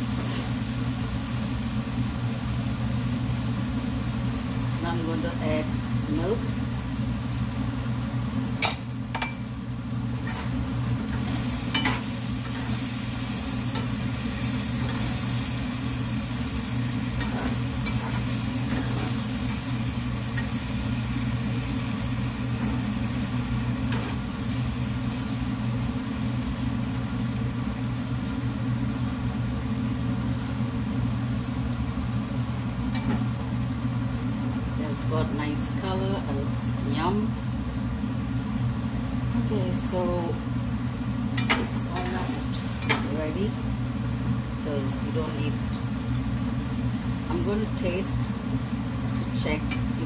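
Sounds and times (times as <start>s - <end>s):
sauce sizzling in a frying pan: 0.0s - 50.0s
steady low hum: 0.0s - 50.0s.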